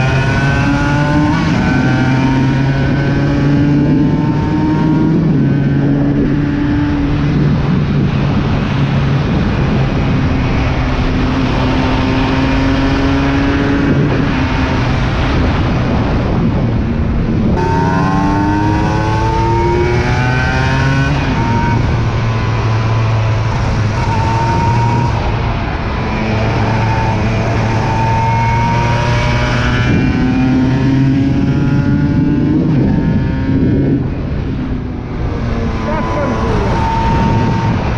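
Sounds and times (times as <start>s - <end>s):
motorcycle engine revving: 0.0s - 16.4s, 17.5s - 37.9s
wind rush: 0.0s - 37.9s.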